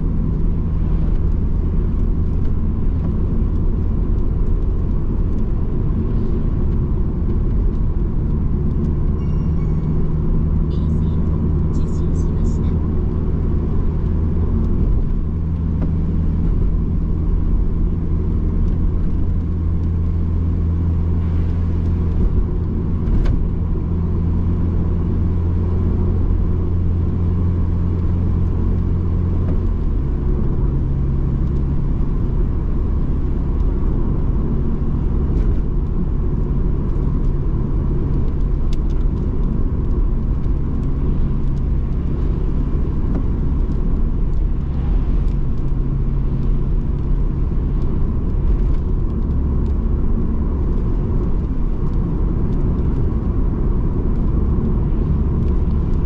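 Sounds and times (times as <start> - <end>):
car engine cruising: 0.0 - 56.0
road noise: 0.0 - 56.0.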